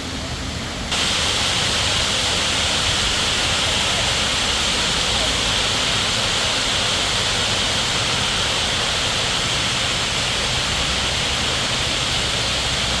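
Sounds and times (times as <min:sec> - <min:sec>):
waterfall rushing: 0:00.9 - 0:13.0.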